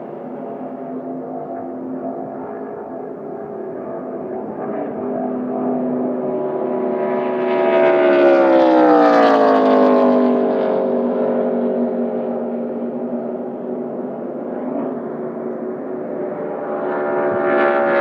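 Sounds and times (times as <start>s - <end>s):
race car engine passing at speed: 0.0s - 18.0s.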